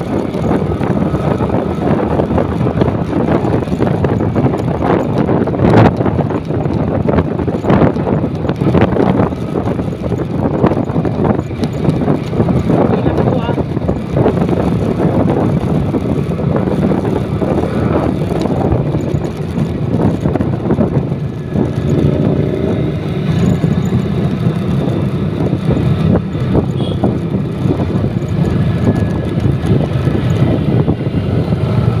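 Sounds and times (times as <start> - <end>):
motorcycle engine running: 0.0 - 32.0
road and wind noise: 0.0 - 32.0.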